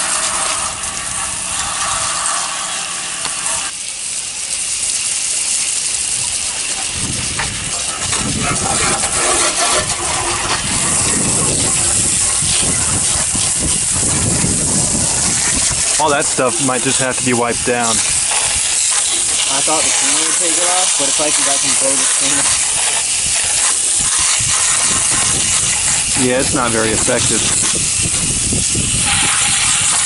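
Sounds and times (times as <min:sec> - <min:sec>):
hose spraying water on metal: 0:00.0 - 0:30.0.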